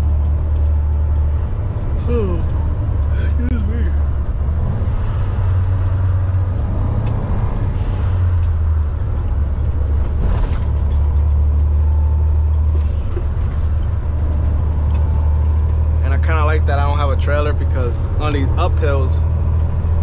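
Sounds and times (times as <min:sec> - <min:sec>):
road noise: 0:00.0 - 0:20.0
truck diesel engine droning: 0:00.0 - 0:20.0.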